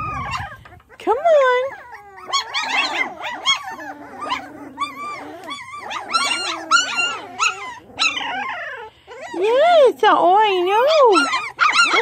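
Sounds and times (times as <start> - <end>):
puppies whining: 0.0 - 12.0.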